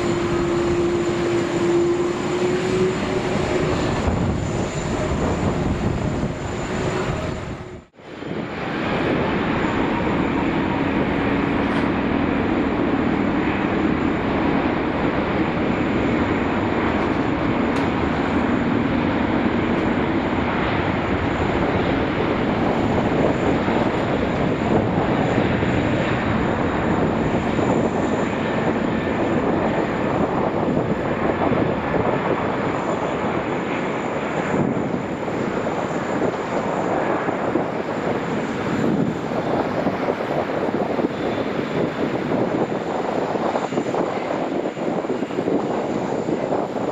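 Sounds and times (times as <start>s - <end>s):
jet engines whining rumble: 0.0s - 46.9s.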